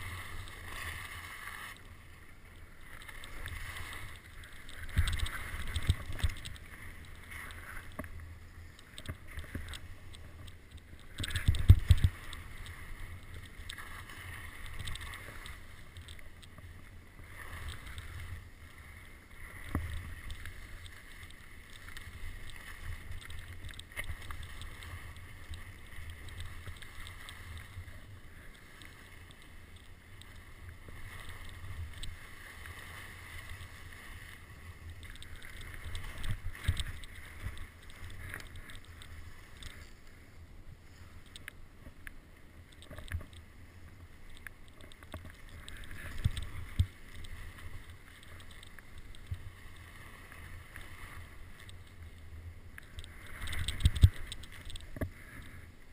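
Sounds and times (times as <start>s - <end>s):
wind rumbling on microphone: 2.8s - 42.0s, 42.6s - 55.9s.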